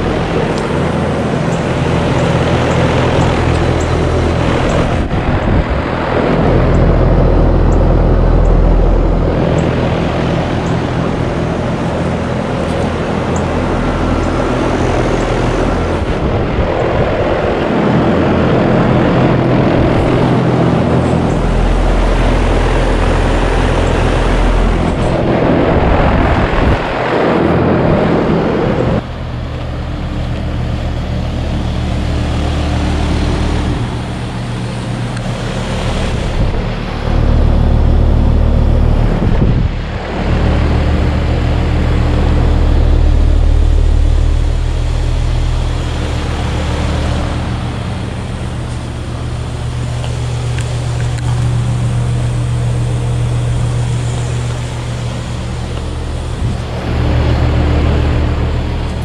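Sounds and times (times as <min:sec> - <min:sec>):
heat pump humming: 0:00.0 - 0:59.0.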